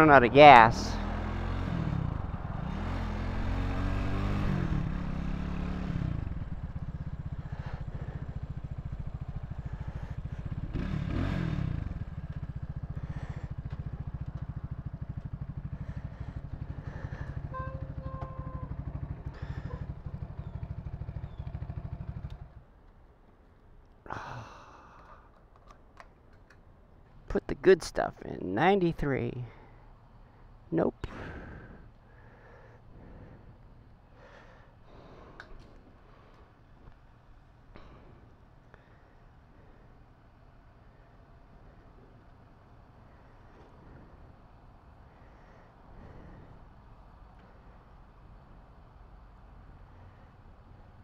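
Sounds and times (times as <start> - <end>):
motorcycle engine revving and idling: 0.0 - 22.8, 31.2 - 51.0.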